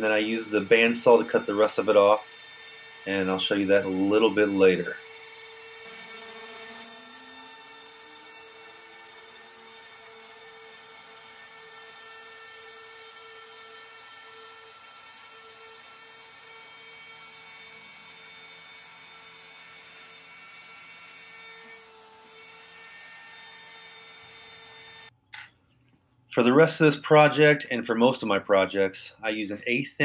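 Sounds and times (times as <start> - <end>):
router spindle whining cutting wood: 0.0 - 25.1.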